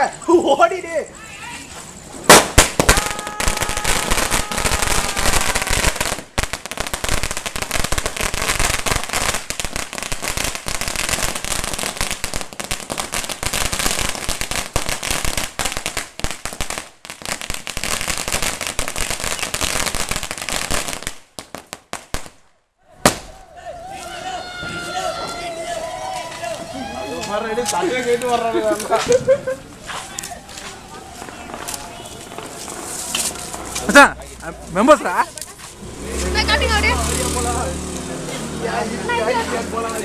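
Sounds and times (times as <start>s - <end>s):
firecrackers banging: 1.6s - 22.4s, 23.0s - 40.0s.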